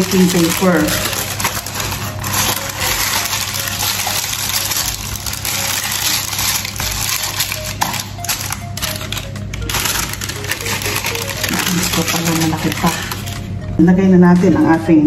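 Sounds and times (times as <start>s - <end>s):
baking paper rustling and crinkling: 0.0s - 13.6s.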